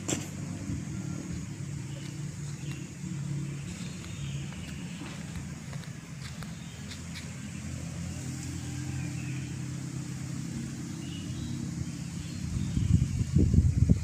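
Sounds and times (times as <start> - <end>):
low mechanical hum with rumble: 0.0 - 14.0.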